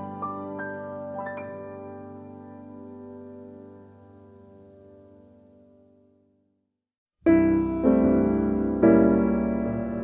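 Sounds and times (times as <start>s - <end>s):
gentle piano chords: 0.0s - 6.5s, 7.2s - 10.0s.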